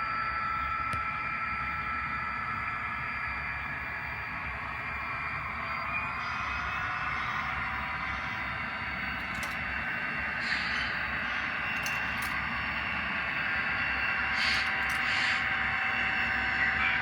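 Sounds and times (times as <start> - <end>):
model train whine and hiss: 0.0 - 17.0.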